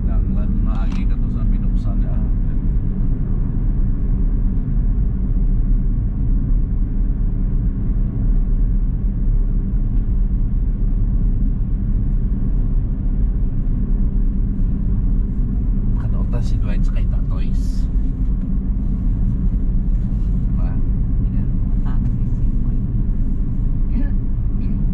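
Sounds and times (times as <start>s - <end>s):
car cabin road and engine rumble: 0.0s - 24.9s.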